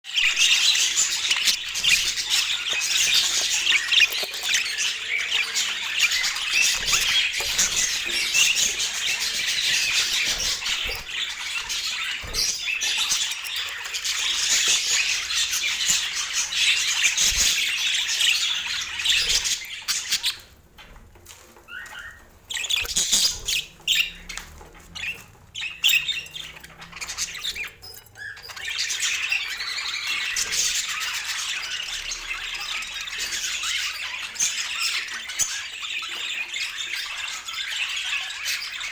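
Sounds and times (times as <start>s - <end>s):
budgerigars chattering and squawking: 0.1s - 38.9s.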